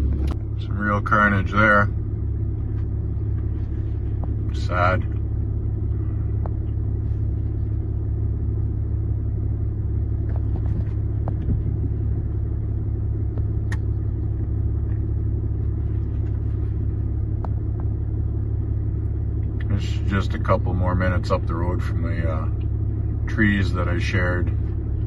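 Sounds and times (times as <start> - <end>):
car cabin road rumble: 0.0 - 25.0.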